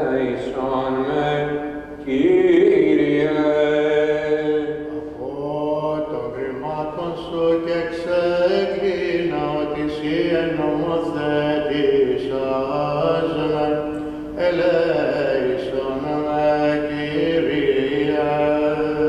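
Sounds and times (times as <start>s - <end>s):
priests chanting a hymn: 0.0s - 19.0s.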